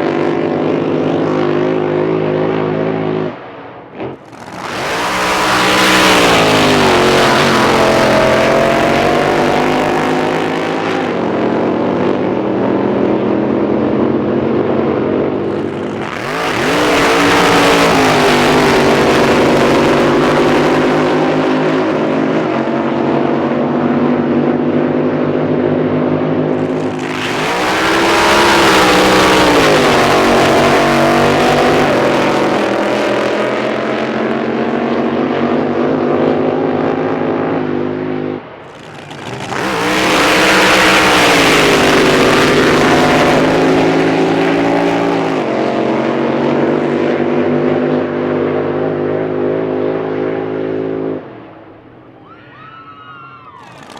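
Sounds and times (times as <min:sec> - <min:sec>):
steady engine hum: 0:00.0 - 0:53.9
racing boat engines passing: 0:04.0 - 0:11.7, 0:14.6 - 0:53.9.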